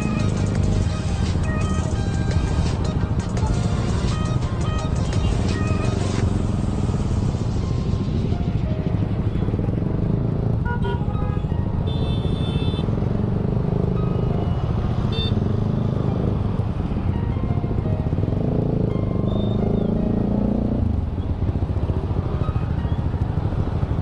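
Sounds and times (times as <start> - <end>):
motorcycle engine and road rumble: 0.0 - 24.0.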